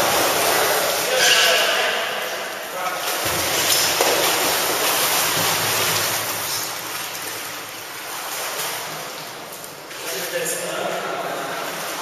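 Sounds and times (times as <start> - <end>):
swimmer splashing in pool: 0.0 - 10.4.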